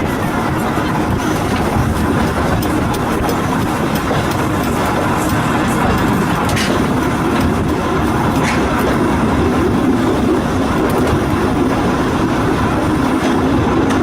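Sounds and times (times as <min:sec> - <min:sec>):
railway car rumbling: 0:00.0 - 0:14.0.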